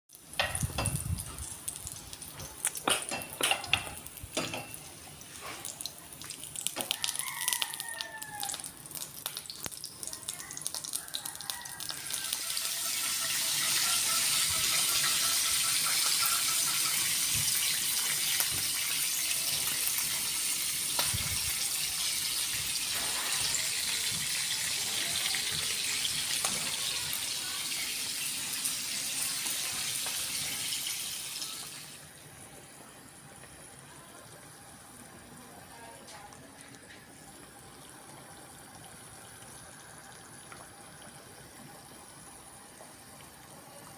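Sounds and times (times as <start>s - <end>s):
food sizzling in hot oil: 0.1s - 43.9s.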